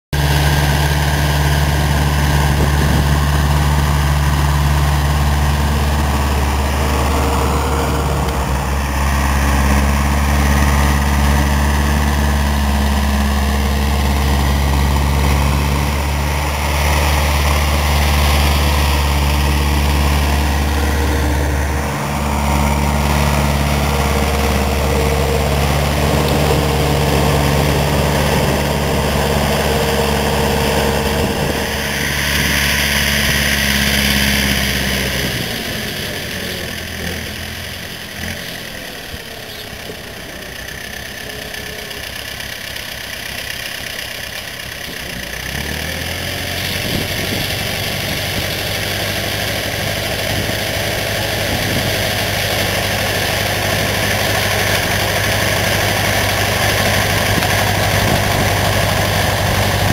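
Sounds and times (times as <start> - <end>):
tractor diesel engine running: 0.1 - 59.9.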